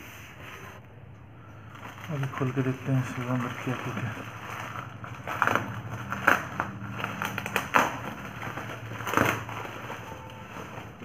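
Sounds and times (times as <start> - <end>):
plastic mailer bag crinkling: 1.5 - 11.0.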